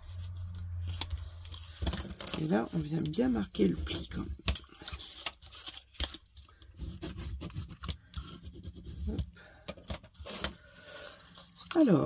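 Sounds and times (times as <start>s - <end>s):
bone folder scraping card: 0.0s - 11.8s.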